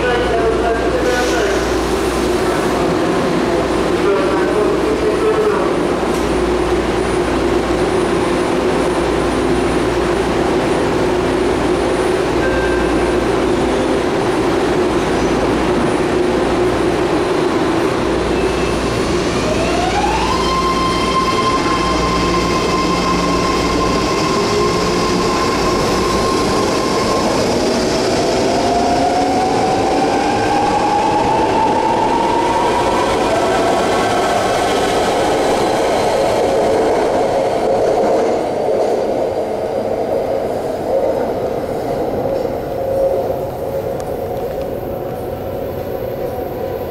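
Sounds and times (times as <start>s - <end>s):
train hum: 0.0s - 46.9s.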